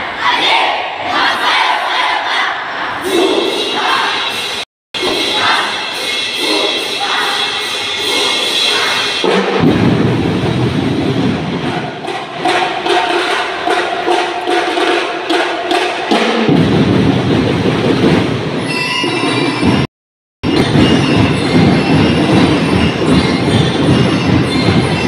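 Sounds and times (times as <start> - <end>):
drums beating a cadence: 0.1 - 25.0.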